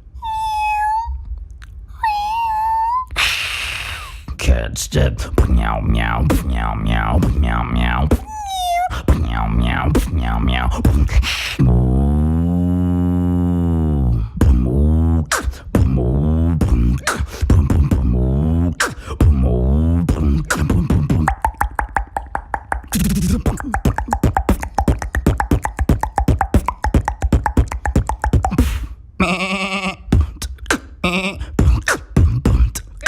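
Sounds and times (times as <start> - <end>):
beatboxing hummed bass notes: 4.2 - 33.0
beatboxing mouth clicks and hits: 5.2 - 29.0, 30.0 - 33.0.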